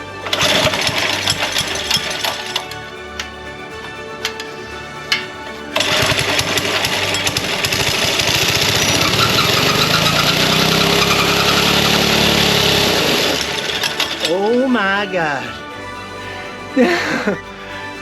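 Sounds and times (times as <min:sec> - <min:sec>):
small single-cylinder engine running: 0:00.2 - 0:03.3, 0:04.2 - 0:15.6.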